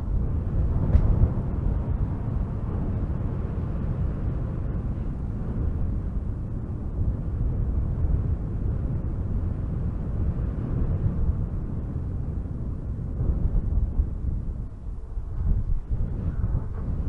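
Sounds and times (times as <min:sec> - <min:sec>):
gusty wind through trees: 0:00.0 - 0:17.0.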